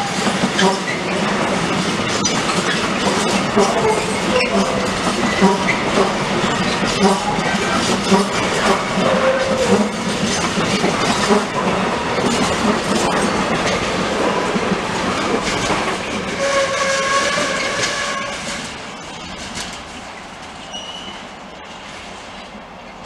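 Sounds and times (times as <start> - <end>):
wheels clattering over rail joints: 0.0 - 21.2
train wagons rumbling past: 0.0 - 23.0.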